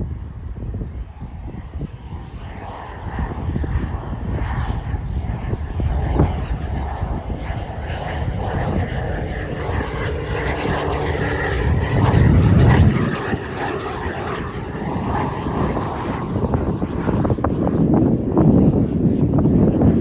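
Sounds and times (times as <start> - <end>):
turboprop engine and propeller drone: 0.0 - 20.0.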